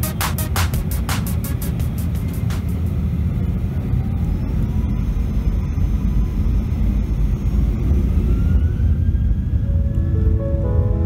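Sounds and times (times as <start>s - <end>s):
jet engine rumble in cabin: 0.0s - 11.0s
jet engine whine rising: 0.0s - 11.0s.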